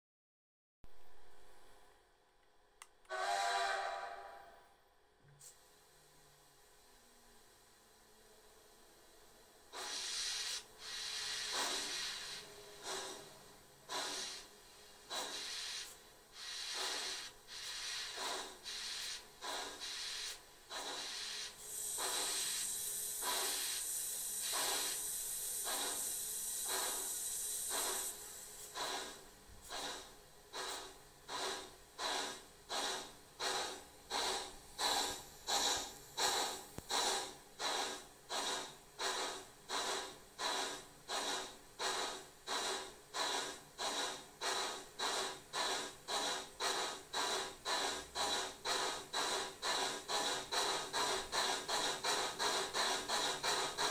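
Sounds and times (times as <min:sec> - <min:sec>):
steam locomotive exhaust chuffs: 0:03.0 - 0:04.7, 0:09.6 - 0:53.9
steady hiss: 0:09.6 - 0:53.9.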